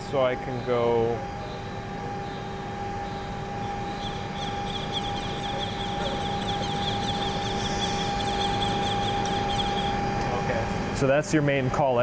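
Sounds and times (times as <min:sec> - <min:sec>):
hum of shop machinery: 0:00.0 - 0:12.0
servo whine: 0:00.4 - 0:10.3.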